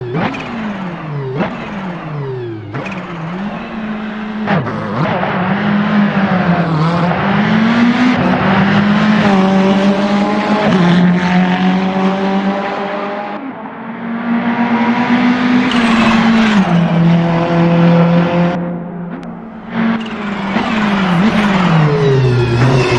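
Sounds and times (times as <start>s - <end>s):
race car engine accelerating: 0.0s - 22.9s.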